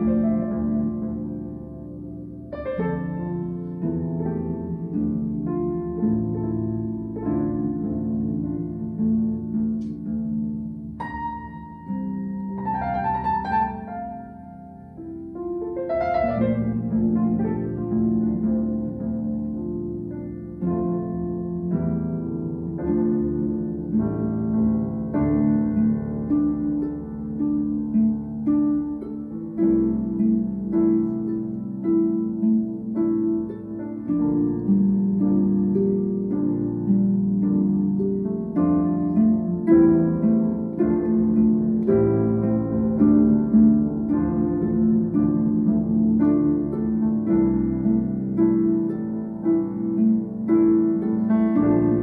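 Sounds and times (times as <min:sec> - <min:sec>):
harp plucked notes: 0:00.0 - 0:52.0.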